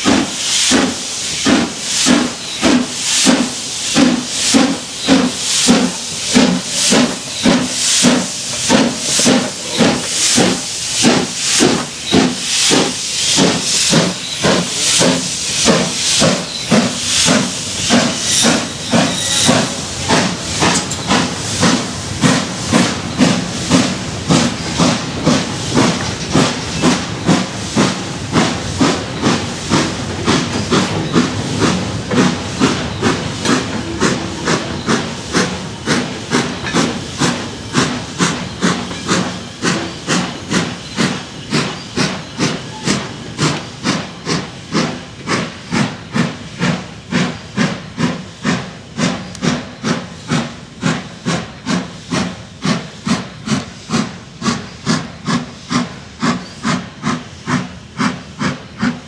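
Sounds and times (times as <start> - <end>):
steam hiss: 0.0 - 59.0
steam locomotive chuffing: 0.0 - 59.0.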